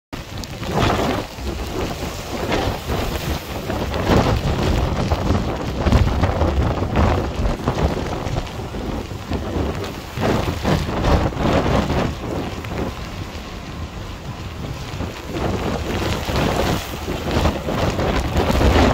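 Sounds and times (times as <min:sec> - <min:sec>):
waves breaking on rocks: 0:00.2 - 0:18.9
wind buffeting microphone: 0:00.2 - 0:18.9.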